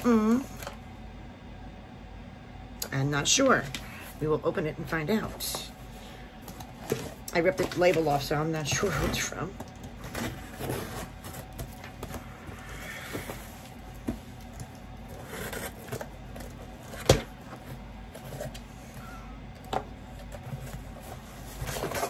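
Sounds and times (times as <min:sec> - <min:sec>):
cardboard box packing rustling: 0:03.5 - 0:22.0.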